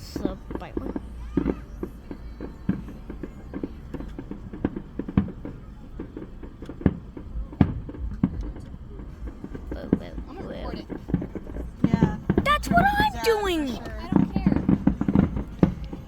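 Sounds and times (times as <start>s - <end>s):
fireworks bangs and pops: 0.0s - 13.9s.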